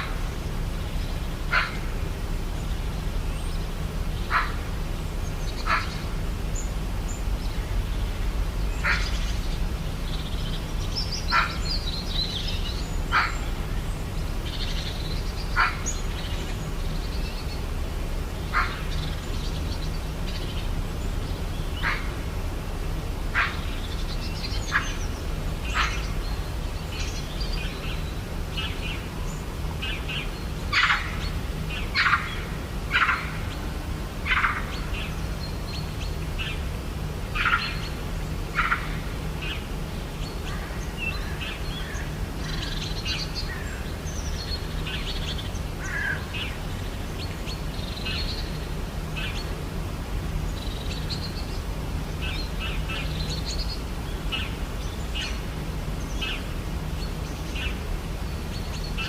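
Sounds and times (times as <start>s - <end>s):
birds chirping and calling: 0.0s - 59.0s
steady low hum: 0.0s - 59.0s.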